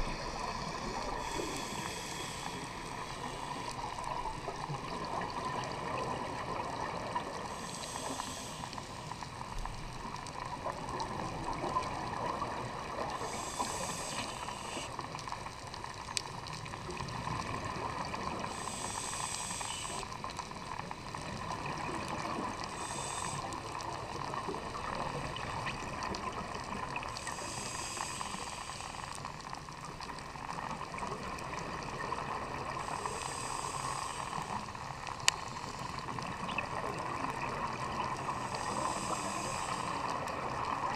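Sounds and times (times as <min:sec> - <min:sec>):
exhaled bubbles underwater: 0:00.0 - 0:40.9
steady underwater hiss: 0:00.0 - 0:40.9.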